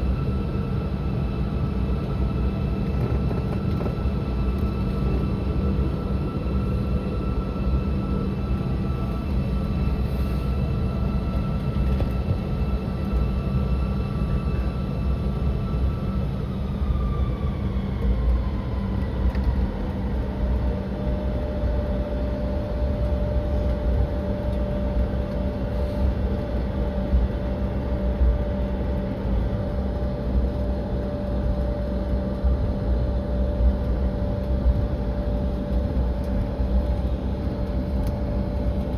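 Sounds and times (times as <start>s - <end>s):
jet engine rumble and rush: 0.0s - 38.9s.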